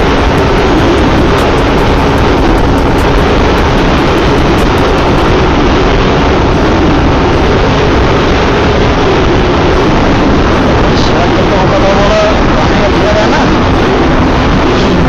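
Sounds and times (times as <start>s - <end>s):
motorcycle engine drone: 0.0s - 15.0s
wind and road noise: 0.0s - 15.0s.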